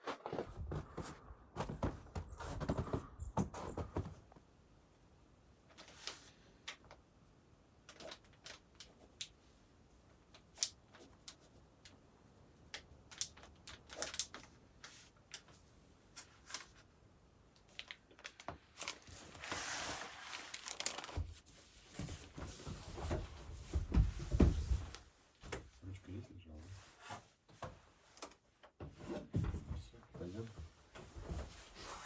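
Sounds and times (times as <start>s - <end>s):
rustling and crinkling: 0.0s - 4.5s, 5.6s - 7.1s, 7.8s - 32.0s.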